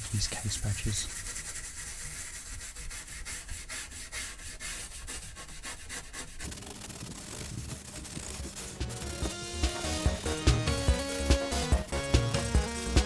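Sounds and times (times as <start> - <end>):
toothbrush scrubbing plastic: 0.0 - 13.0.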